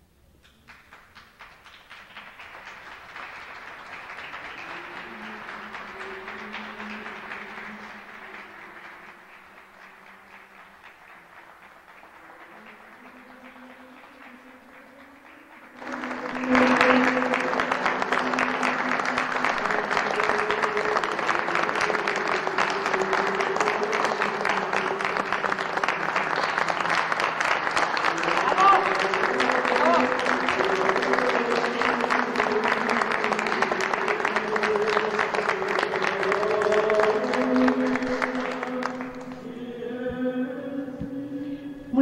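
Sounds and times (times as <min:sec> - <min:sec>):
audience applause: 0:00.6 - 0:40.9.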